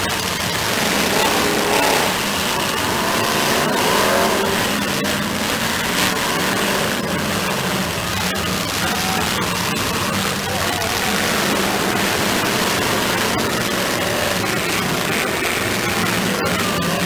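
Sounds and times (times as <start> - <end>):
car engines revving: 0.0 - 17.0
steady wash of noise: 0.0 - 17.0.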